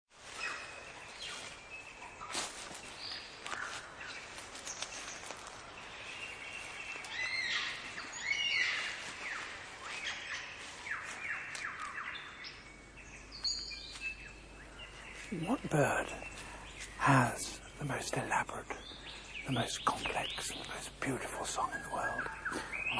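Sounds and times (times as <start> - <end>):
birds chirping and whistling: 0.3 - 22.9.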